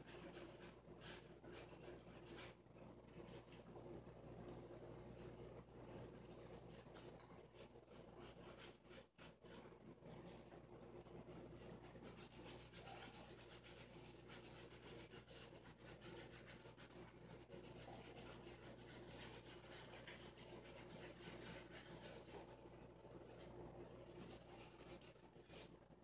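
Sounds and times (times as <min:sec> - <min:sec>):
shaving brush scratching beard: 0:00.0 - 0:02.6, 0:06.2 - 0:25.8.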